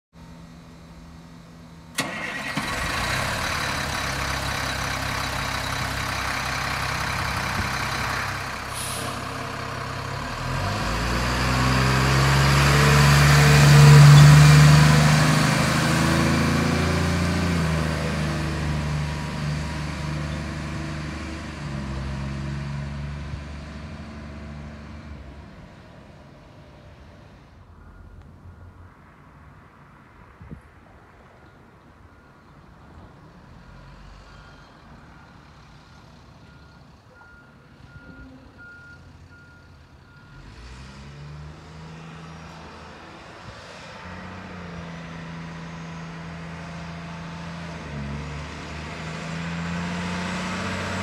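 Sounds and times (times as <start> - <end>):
garbage truck diesel engine: 0.2 - 29.9, 31.4 - 51.0.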